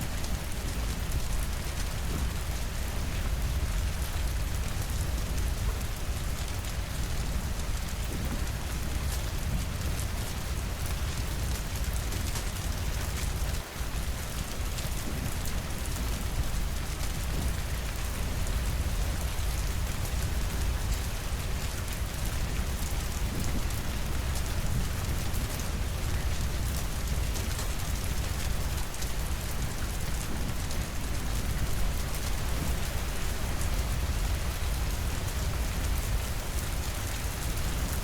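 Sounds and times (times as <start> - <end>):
steady rainfall: 0.0 - 38.0.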